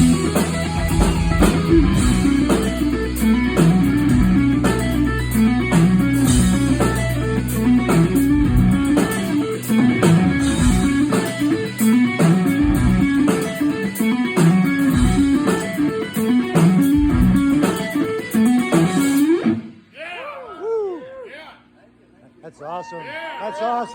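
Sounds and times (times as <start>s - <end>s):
electric guitar riff: 0.0s - 19.8s.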